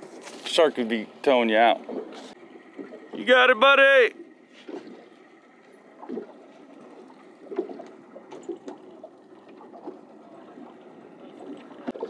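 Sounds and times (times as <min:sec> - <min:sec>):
water lapping around boat: 0:00.0 - 0:12.0.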